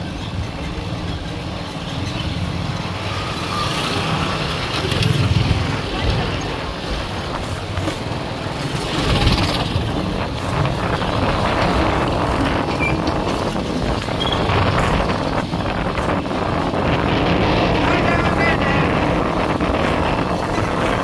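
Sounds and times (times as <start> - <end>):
tyres on rough unpaved road: 0.0 - 21.0
vehicle engine: 0.0 - 21.0
wind buffeting microphone: 0.0 - 21.0.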